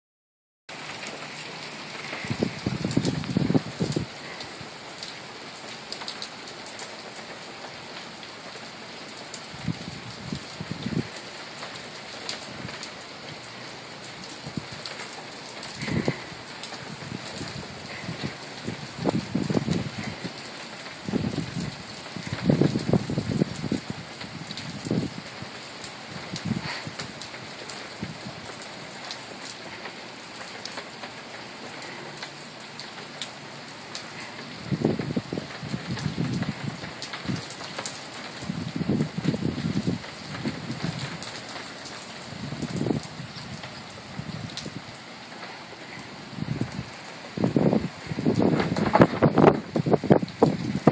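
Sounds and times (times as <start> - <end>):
steady rain hissing: 0.7 - 50.9.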